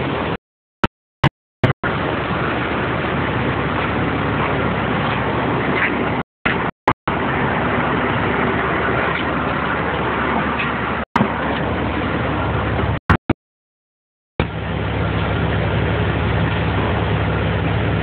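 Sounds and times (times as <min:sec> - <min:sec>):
engine and machinery noise: 0:00.0 - 0:00.4, 0:01.2 - 0:13.3, 0:14.4 - 0:18.0.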